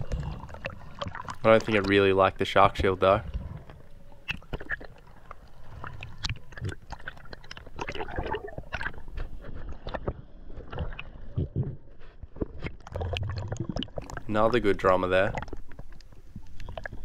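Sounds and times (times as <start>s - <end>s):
low rumble of moving water: 0.0s - 17.0s
underwater clicks and crackles: 0.0s - 17.0s
water gurgle: 0.0s - 17.0s.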